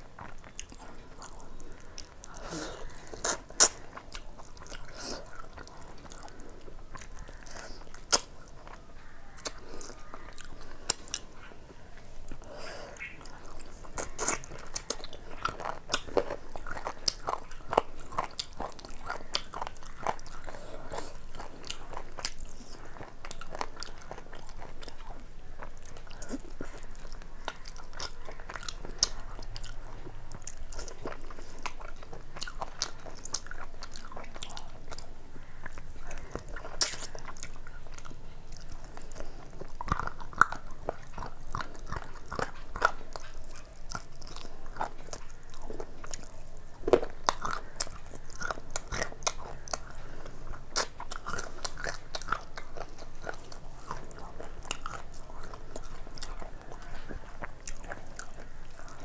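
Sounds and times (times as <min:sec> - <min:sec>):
person chewing and lip smacking: 0:00.0 - 0:59.0.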